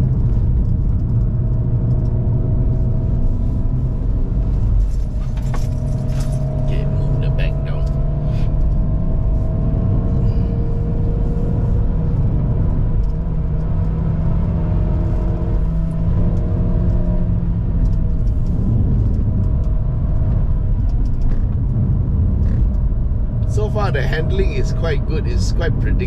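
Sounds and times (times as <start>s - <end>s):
road rumble: 0.0s - 26.0s.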